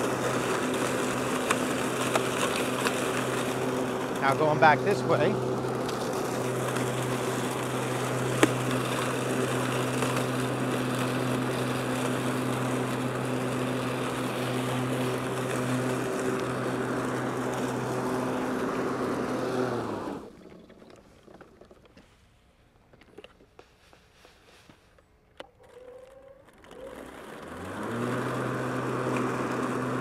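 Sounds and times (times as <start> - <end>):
lawn mower running: 0.0 - 23.4, 25.4 - 30.0.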